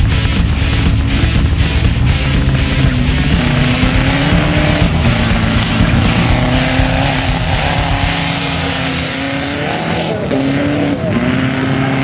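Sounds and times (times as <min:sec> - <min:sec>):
buggy engine revving high: 0:00.0 - 0:12.0.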